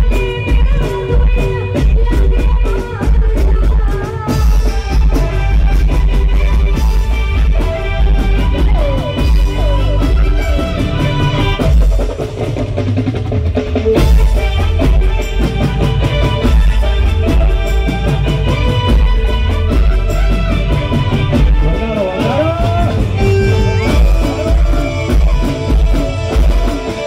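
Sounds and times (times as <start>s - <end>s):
drum kit and hand percussion: 0.0s - 27.0s
live band music through a pa: 0.0s - 27.0s.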